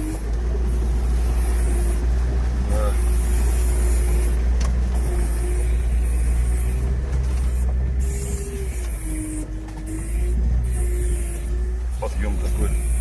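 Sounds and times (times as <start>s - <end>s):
thin drivetrain whine: 0.0s - 13.0s
vehicle engine drone under load: 0.0s - 13.0s.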